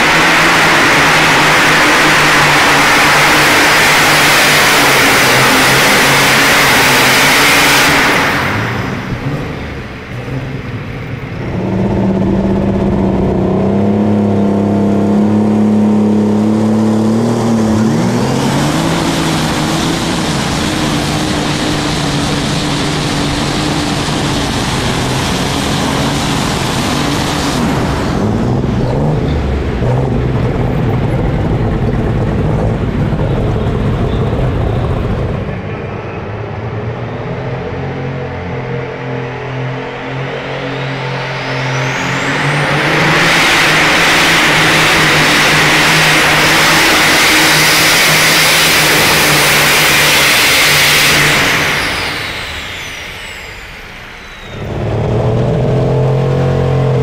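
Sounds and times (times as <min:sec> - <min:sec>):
tractor engine running hard: 0:00.0 - 0:57.0.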